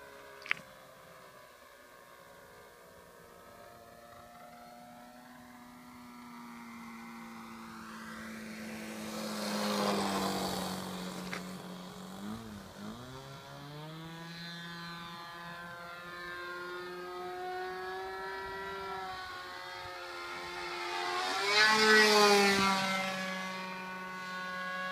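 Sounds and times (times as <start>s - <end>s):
model airplane motor and propeller: 0.0s - 24.9s.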